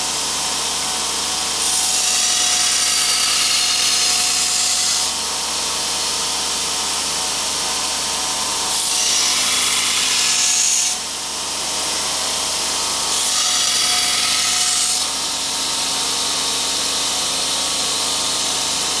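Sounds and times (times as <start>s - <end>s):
belt grinder running: 0.0s - 19.0s.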